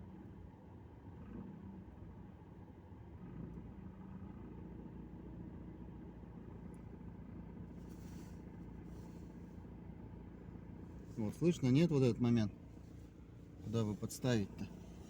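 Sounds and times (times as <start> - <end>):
car engine running under load: 0.0 - 15.0.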